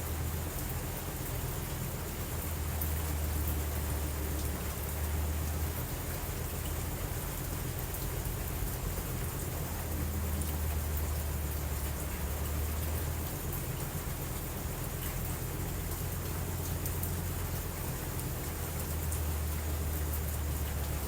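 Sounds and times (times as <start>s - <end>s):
low continuous rumble: 0.0s - 21.0s
steady rainfall: 0.0s - 21.0s.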